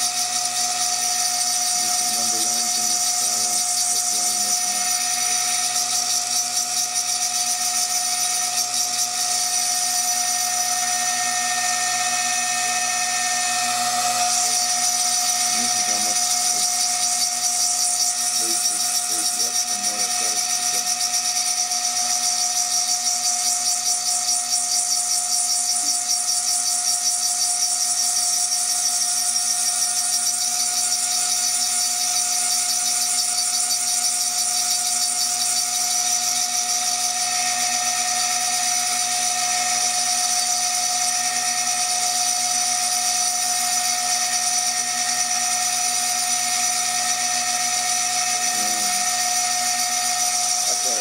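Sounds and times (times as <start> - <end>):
milling spindle whine: 0.0 - 51.0.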